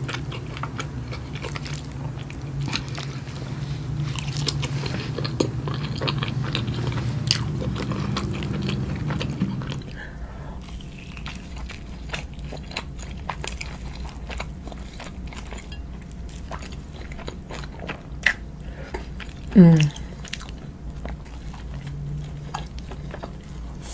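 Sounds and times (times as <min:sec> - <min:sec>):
biting and chewing food: 0:00.0 - 0:23.9.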